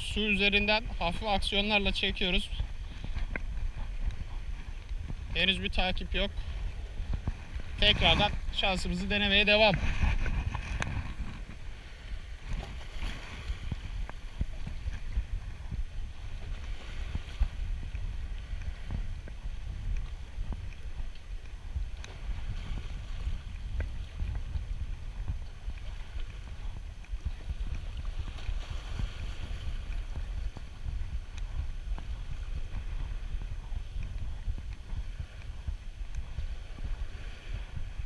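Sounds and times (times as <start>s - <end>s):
waves washing against rocks: 0.0s - 38.0s
wind buffeting microphone: 0.0s - 38.0s.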